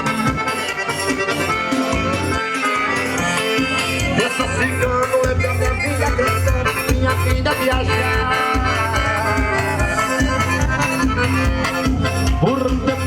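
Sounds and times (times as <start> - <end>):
accordion melody: 0.0 - 13.0.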